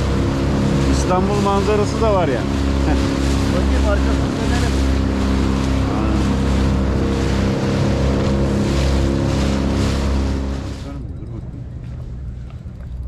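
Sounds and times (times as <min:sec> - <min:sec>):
outboard motor running: 0:00.0 - 0:13.0
water splashing along hull: 0:00.0 - 0:13.0.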